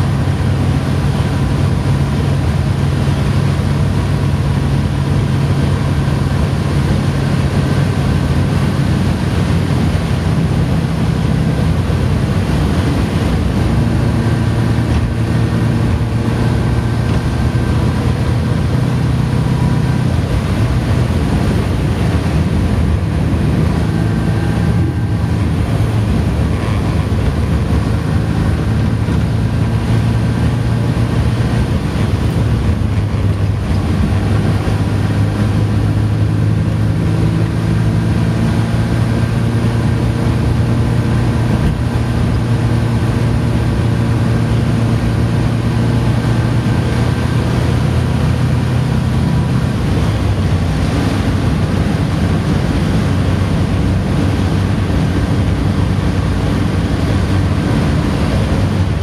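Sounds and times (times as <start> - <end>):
car engine running: 0.0 - 59.0
road and wind noise: 0.0 - 59.0.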